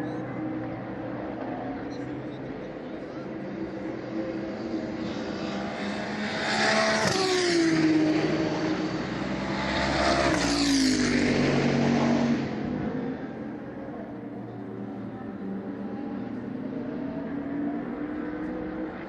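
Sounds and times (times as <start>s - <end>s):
race cars passing at speed: 0.0s - 19.0s.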